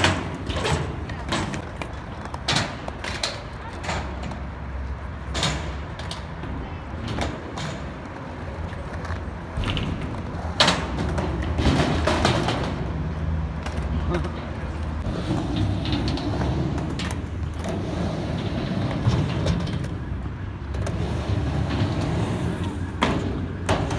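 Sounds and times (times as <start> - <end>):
skateboard wheels rolling on concrete: 0.0 - 23.9
skateboards clacking on ground: 0.0 - 23.9.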